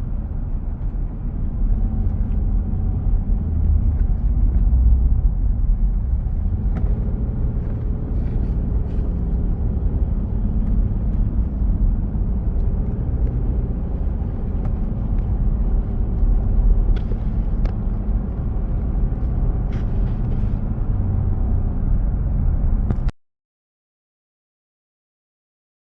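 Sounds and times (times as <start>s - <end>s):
moving vehicle rumble: 0.0s - 23.2s.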